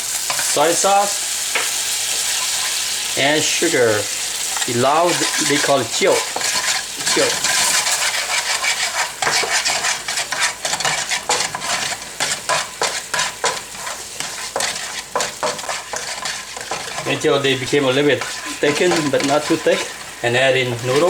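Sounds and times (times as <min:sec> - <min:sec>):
sauce sizzling in a pan: 0:00.0 - 0:21.0
utensil scraping a pan: 0:00.2 - 0:21.0.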